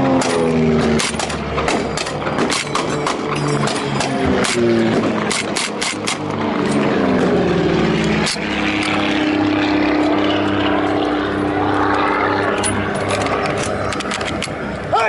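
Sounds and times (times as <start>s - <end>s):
propeller aircraft passing overhead: 0.0s - 15.0s.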